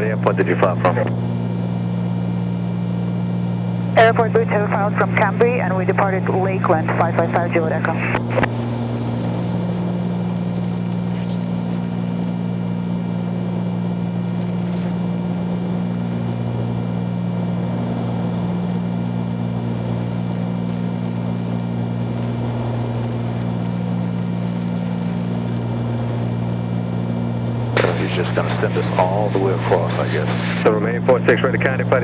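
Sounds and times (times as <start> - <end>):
twin piston engines droning in flight: 0.0 - 32.0.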